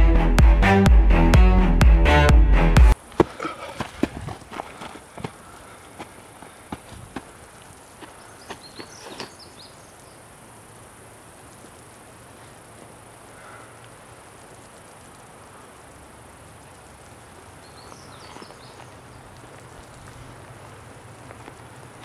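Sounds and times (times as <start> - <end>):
insects buzzing: 2.9 - 22.0.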